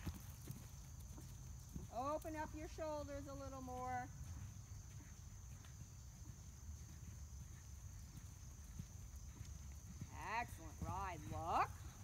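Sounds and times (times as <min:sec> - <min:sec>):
horse hoofbeats on sand: 0:00.0 - 0:12.0.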